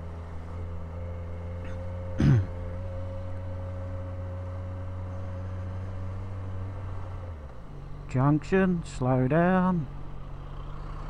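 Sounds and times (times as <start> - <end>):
motorcycle engine humming: 0.0 - 11.0.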